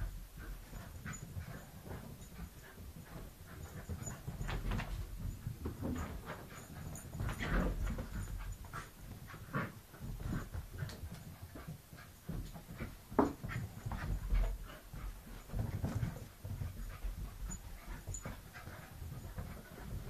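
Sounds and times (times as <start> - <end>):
dogs panting: 0.0 - 20.0
dogs playing noises: 0.0 - 20.0.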